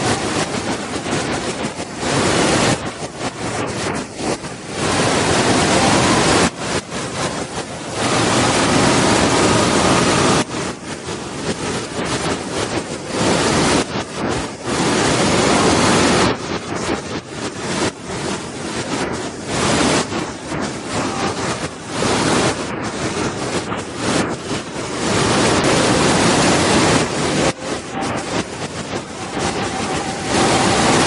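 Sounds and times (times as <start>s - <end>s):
waterfall crashing: 0.0s - 31.0s.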